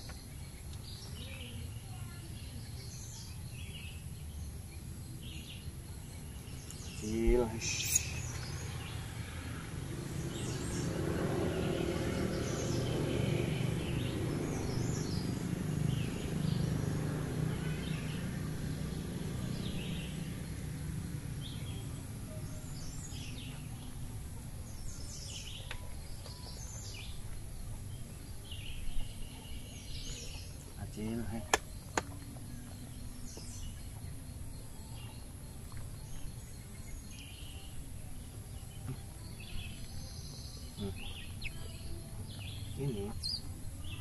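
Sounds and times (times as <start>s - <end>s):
low outdoor rumble: 0.0s - 44.0s
small birds chirping: 0.0s - 44.0s.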